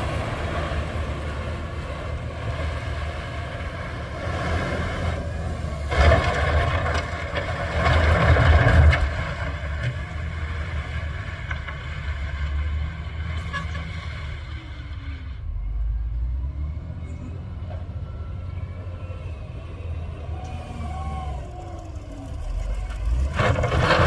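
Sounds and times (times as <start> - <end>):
heavy diesel engine rumbling: 0.0 - 24.0.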